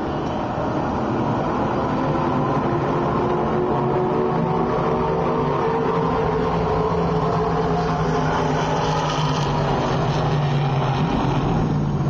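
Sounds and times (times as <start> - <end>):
race car engine: 0.0 - 12.0.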